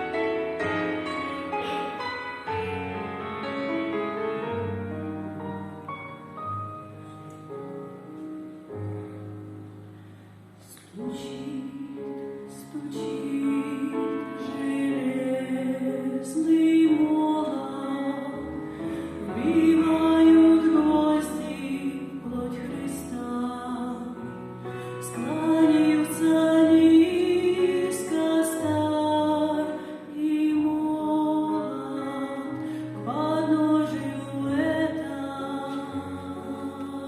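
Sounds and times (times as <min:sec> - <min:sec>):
fuller instrumental accompaniment: 0:00.0 - 0:37.0
piano-like keyboard notes: 0:00.0 - 0:37.0.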